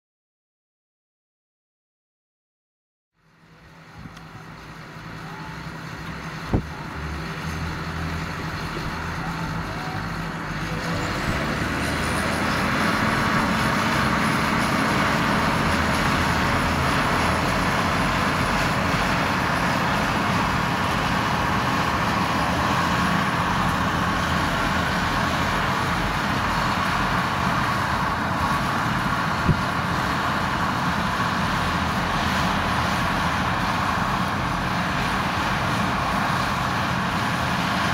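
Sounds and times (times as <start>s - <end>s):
tractor diesel engine running: 3.2s - 37.9s.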